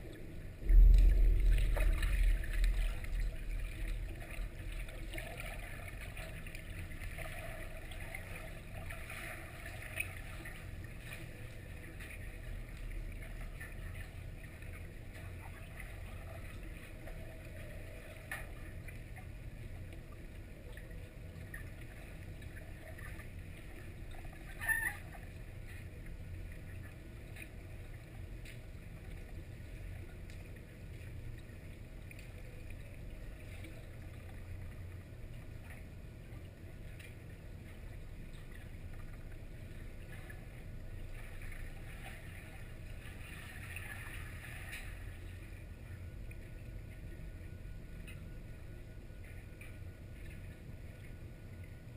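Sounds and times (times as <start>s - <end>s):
underwater low rumble: 0.0s - 51.9s.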